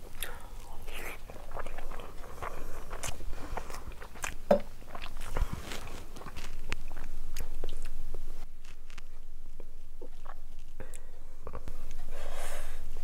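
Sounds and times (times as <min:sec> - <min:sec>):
chewing and wet mouth sounds: 0:00.0 - 0:12.2.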